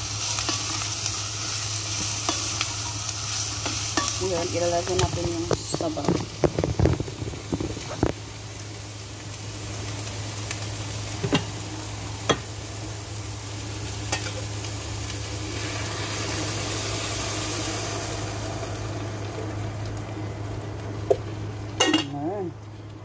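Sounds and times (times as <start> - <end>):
steady low hum: 0.0 - 23.0
vegetables sizzling in a pot: 0.0 - 23.0.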